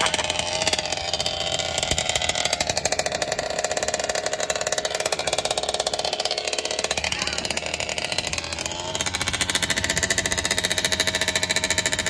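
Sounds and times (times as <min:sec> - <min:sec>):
small two-stroke engine running: 0:00.0 - 0:12.0.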